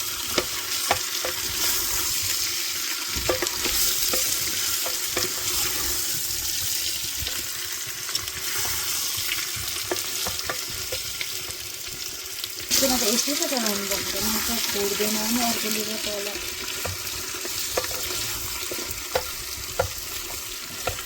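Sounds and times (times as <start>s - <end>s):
food sizzling in hot oil: 0.0s - 21.0s
utensil scraping a pot: 0.2s - 2.5s, 3.1s - 11.2s, 13.9s - 21.0s.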